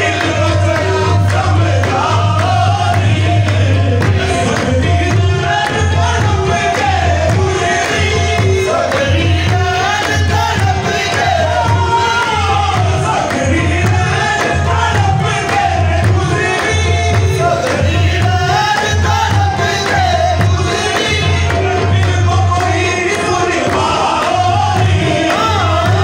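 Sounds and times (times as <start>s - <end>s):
pulsing low drum beat: 0.0s - 26.0s.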